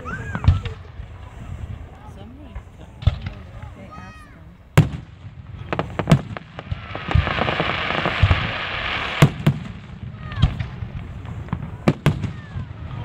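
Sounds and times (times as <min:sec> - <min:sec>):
firework bangs: 0:00.0 - 0:13.0
firework hiss: 0:00.0 - 0:13.0.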